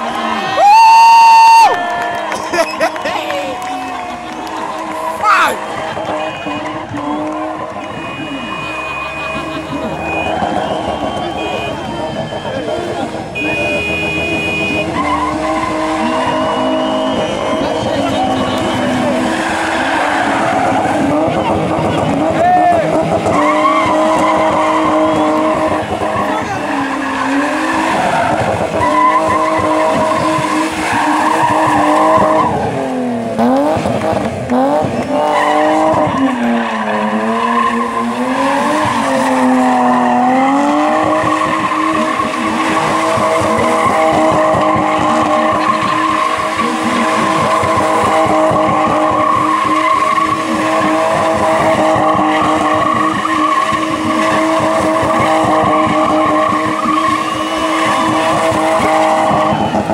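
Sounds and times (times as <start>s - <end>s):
car engine revving high: 0.0s - 59.9s
tyres squealing: 2.3s - 32.6s, 35.0s - 59.9s.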